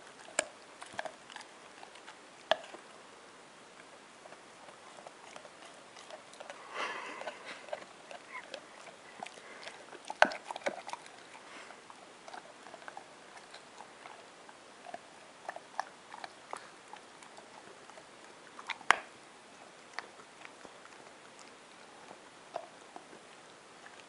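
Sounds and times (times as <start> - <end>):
dog chewing: 0.0 - 3.0, 3.7 - 24.0.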